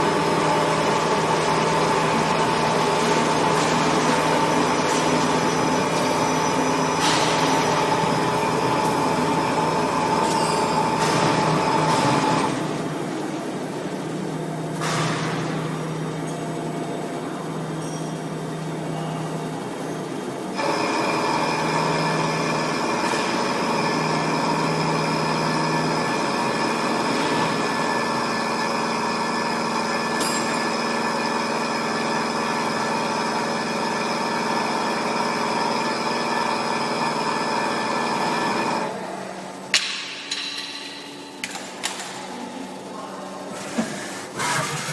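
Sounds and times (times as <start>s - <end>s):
machine whine of several tones: 0.0s - 12.7s, 14.1s - 39.2s.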